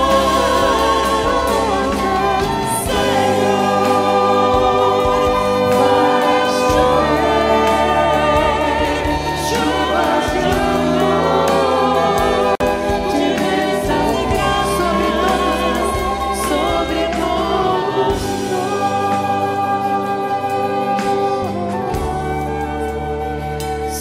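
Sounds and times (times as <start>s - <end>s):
choir singing devotional song: 0.0s - 24.0s
instrumental accompaniment: 0.0s - 24.0s.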